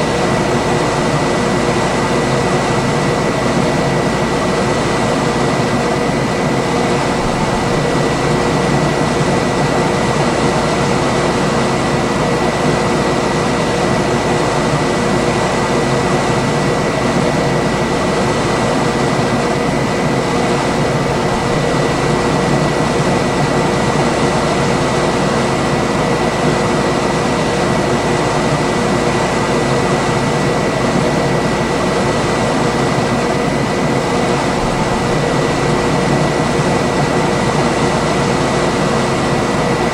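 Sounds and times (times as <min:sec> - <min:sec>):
air conditioner fan running: 0:00.0 - 0:39.9
faint high whine: 0:00.0 - 0:39.9
low hums: 0:00.0 - 0:39.9.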